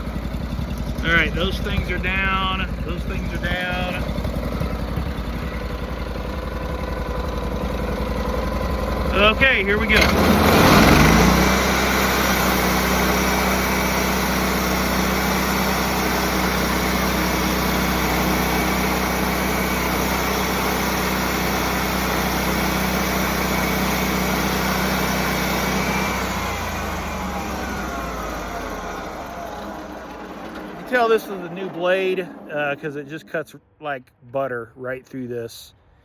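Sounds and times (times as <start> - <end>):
sawmill engine running: 0.0 - 33.6.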